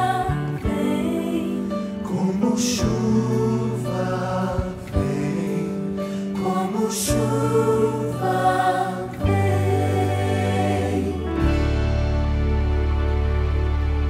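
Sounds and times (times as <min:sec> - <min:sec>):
choir singing with band: 0:00.0 - 0:12.8.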